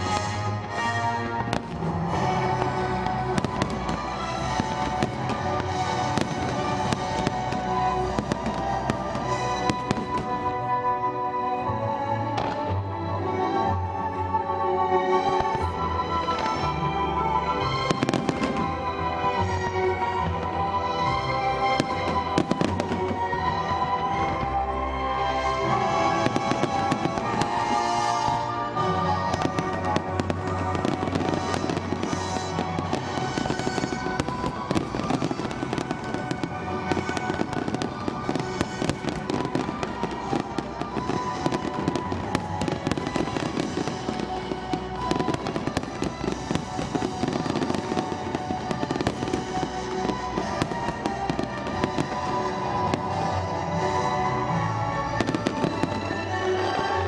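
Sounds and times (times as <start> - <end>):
fireworks bursting and crackling: 0.0 - 57.0
music soundtrack: 0.0 - 57.0.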